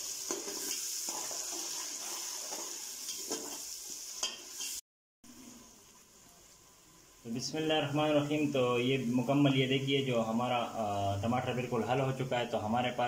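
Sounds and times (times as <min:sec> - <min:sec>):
food sizzling in hot oil: 0:00.0 - 0:10.9.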